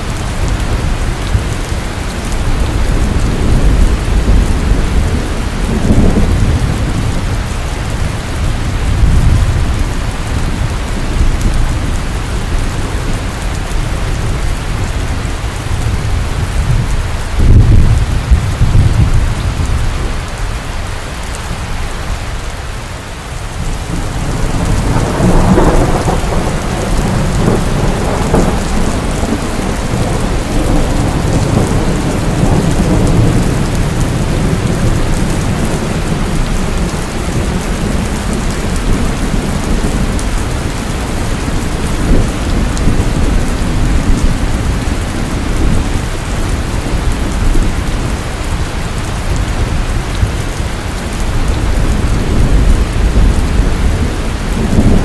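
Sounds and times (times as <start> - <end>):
heavy rain falling: 0.0 - 55.0
rolling thunder: 0.1 - 20.3, 23.6 - 55.0.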